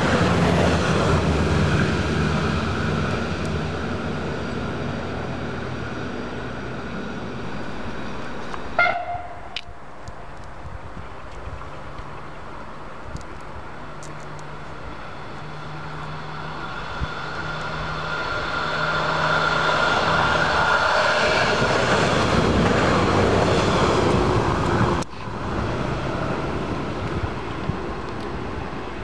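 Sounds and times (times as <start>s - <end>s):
diesel train passing: 0.0s - 29.0s.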